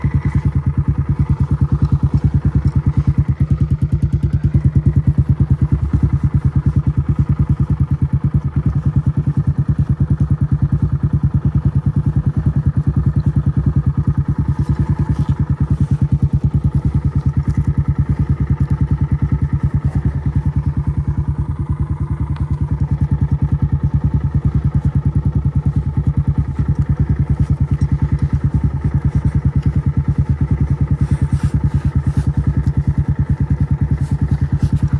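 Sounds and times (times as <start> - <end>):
dirt bike engine idling: 0.0 - 34.9.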